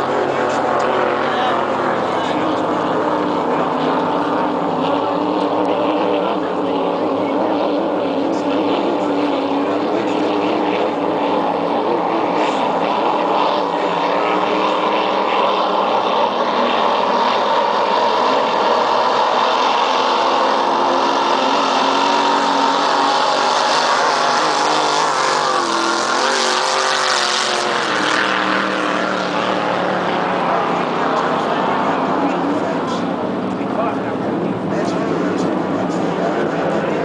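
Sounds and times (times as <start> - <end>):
race boat engines droning: 0.0 - 37.0.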